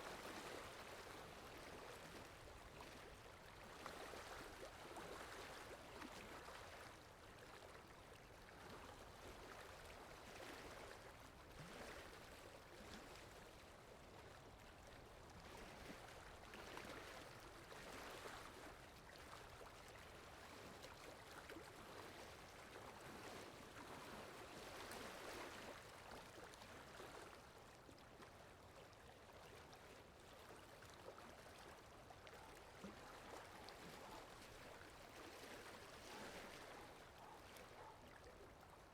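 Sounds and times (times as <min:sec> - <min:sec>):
faint water lapping: 0:00.0 - 0:38.9.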